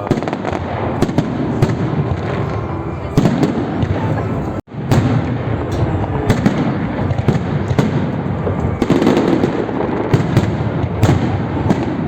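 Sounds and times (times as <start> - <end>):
firework bangs: 0.0 - 12.0
firework crackling: 0.0 - 12.0.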